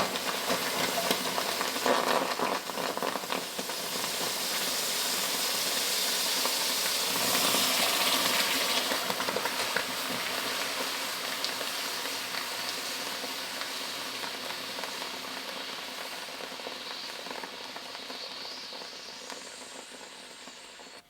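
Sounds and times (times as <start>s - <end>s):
liquid fizzing and sizzling: 0.0s - 21.0s.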